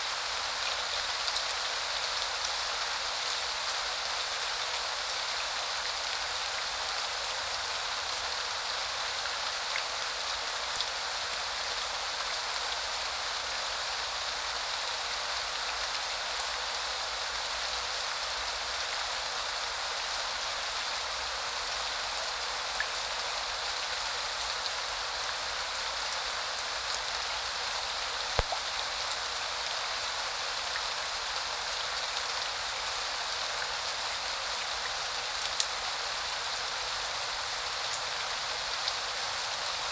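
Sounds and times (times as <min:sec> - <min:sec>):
rain falling: 0:00.1 - 0:39.9.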